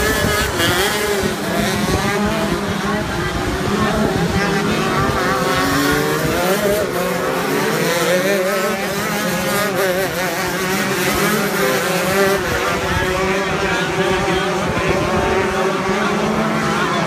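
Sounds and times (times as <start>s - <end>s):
kart engine revving high: 0.0s - 17.0s.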